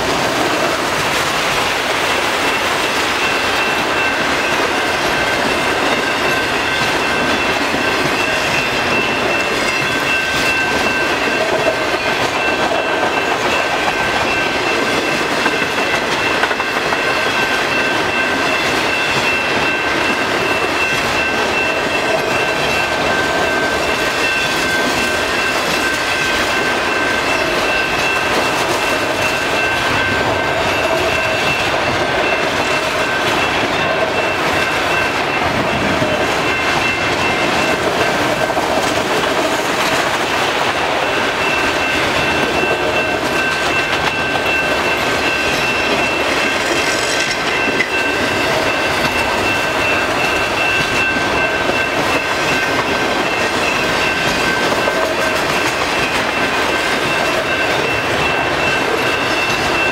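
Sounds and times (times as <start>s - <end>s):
steady high-pitched tones: 0.0s - 59.9s
wheel-on-rail noise: 0.0s - 59.9s.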